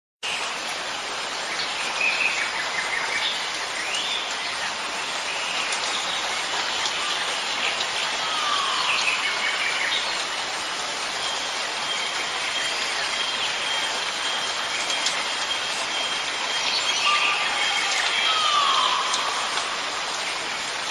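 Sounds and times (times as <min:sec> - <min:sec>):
steady rain falling: 0:00.2 - 0:20.9
birds chirping: 0:02.1 - 0:20.9.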